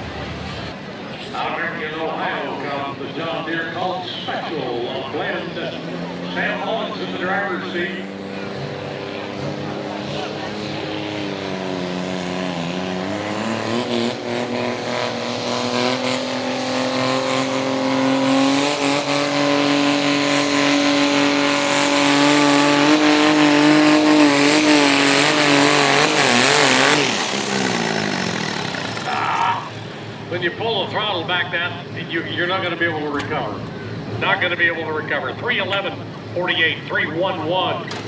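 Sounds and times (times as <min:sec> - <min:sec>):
diesel tractor engine at full throttle: 0:00.0 - 0:38.0.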